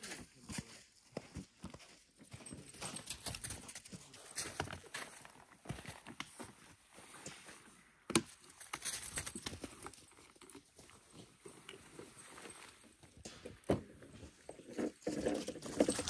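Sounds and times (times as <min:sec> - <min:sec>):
footsteps on snowy ground: 0:00.0 - 0:13.2.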